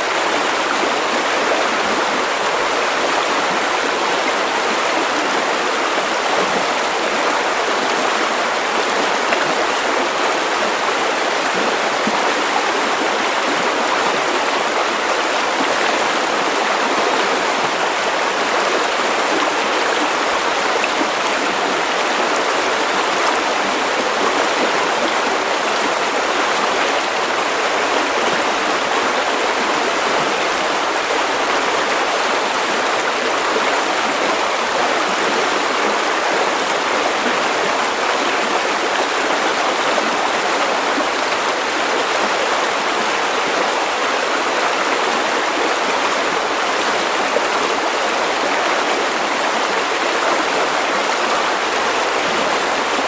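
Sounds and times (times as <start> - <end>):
river water over stones: 0.0 - 53.0.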